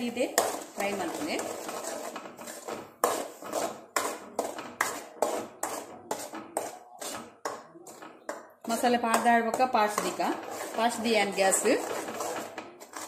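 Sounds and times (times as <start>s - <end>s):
metal spoon scraping a pan: 0.0s - 13.0s
paste frying in oil: 0.0s - 13.0s.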